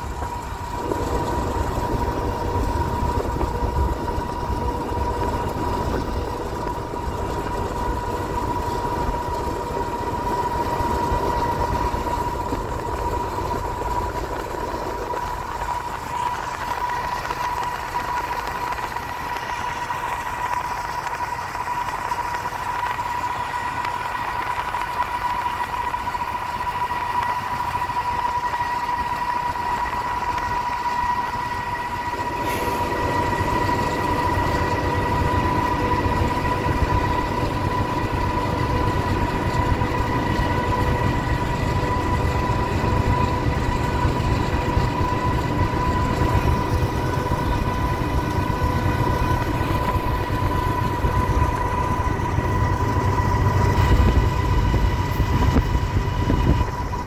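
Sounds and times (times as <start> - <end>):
high whine: 0.0 - 57.0
locomotive rumbling drone: 0.0 - 57.0
road noise: 0.0 - 57.0
wind noise: 0.0 - 57.0.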